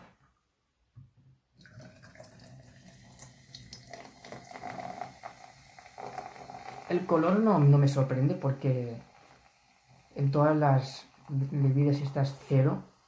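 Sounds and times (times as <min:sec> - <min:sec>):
carbonated drink pouring into glass: 0:01.6 - 0:13.0.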